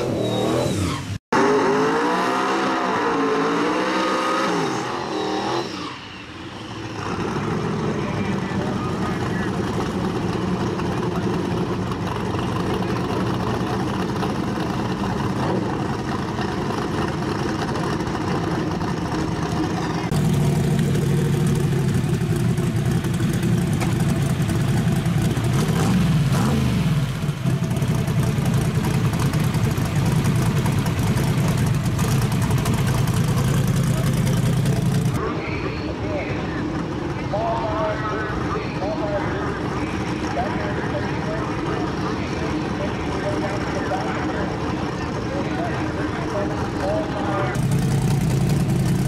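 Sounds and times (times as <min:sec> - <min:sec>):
drag car engine running: 0:06.5 - 0:35.3, 0:36.1 - 0:49.0.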